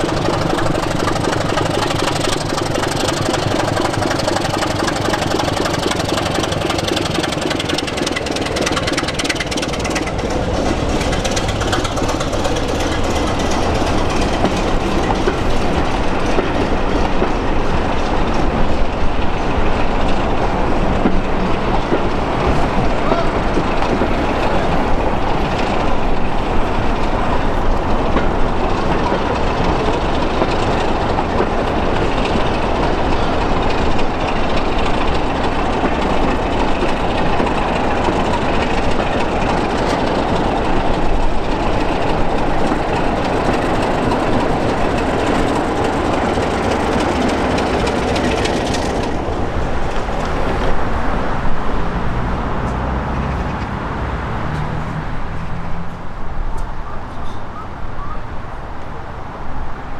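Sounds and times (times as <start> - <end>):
train wheels clattering over rail joints: 0.0 - 53.8
diesel locomotive engine running: 0.0 - 59.9.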